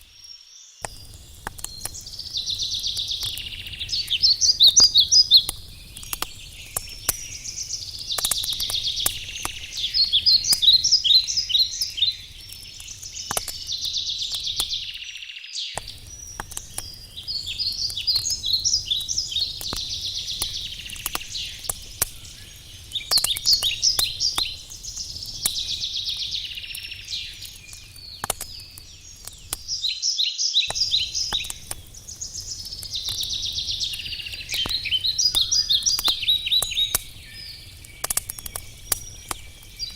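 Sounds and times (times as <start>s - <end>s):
campfire crackling and popping: 0.0s - 15.2s, 15.8s - 30.0s, 30.7s - 39.9s
songbird trilling: 1.6s - 28.2s, 29.7s - 39.9s.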